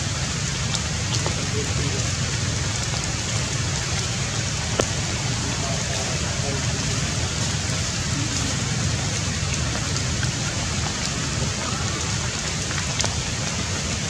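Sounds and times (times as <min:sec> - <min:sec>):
rain on leaves: 0:00.0 - 0:14.0.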